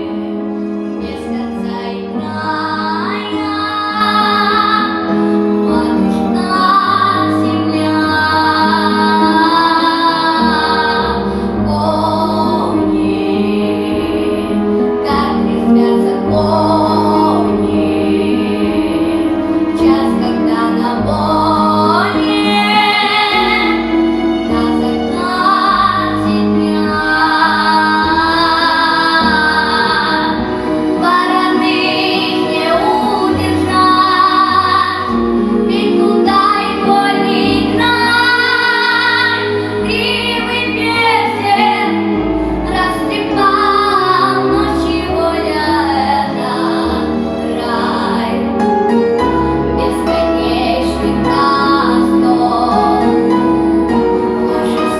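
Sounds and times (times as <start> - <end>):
instrumental backing track: 0.0 - 54.9
woman singing: 1.0 - 48.7, 49.7 - 54.9.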